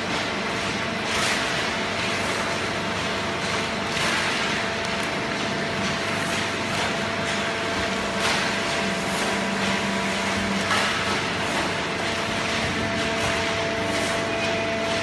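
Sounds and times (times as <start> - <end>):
conveyor clatter and knocks: 0.0 - 15.0.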